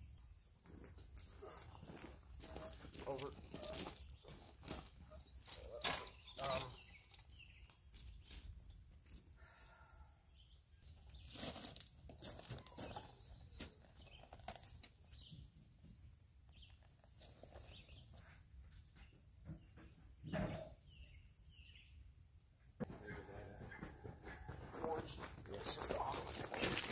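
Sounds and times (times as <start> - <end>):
insect chorus buzzing: 0.0 - 26.9.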